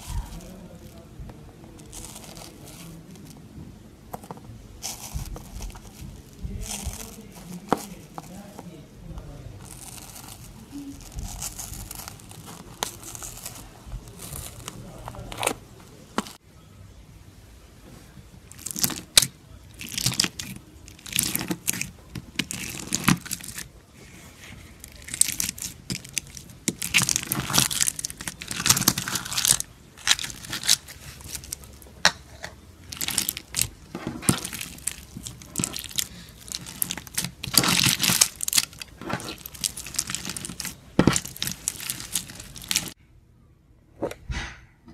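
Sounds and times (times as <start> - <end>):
crackling and popping beads: 0.0 - 16.4, 18.2 - 43.0
hands squishing slime: 0.0 - 16.4, 18.3 - 43.0.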